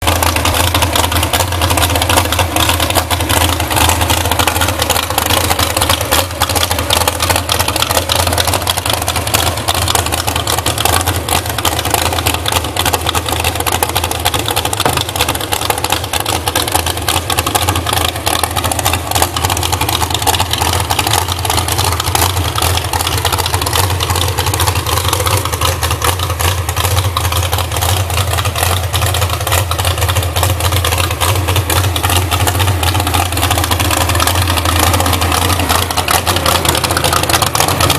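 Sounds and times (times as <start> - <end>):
truck engine idling: 0.0 - 37.9.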